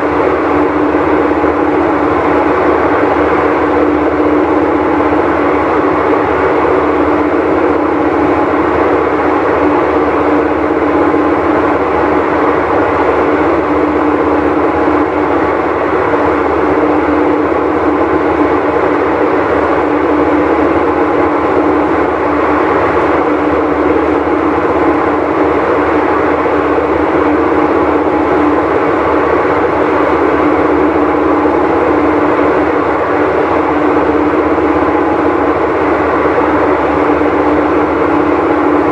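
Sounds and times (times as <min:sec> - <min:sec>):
washing machine rumbling and humming: 0:00.0 - 0:38.9.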